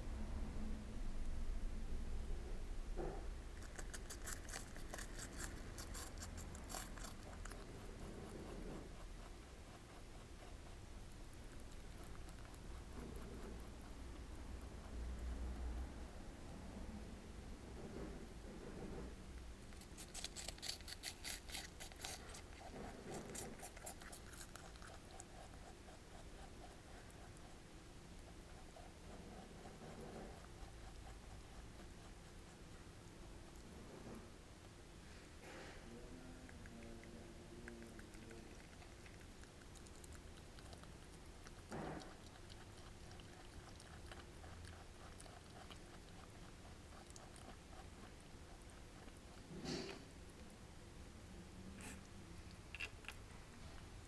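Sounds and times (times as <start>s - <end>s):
rabbit chewing food: 0.3s - 54.0s.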